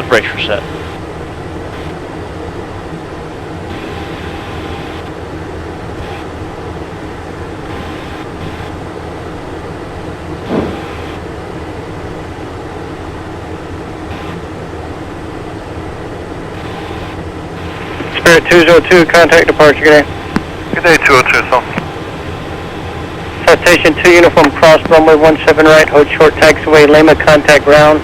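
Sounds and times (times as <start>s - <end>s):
jet engines cockpit rumble: 0.0s - 28.0s.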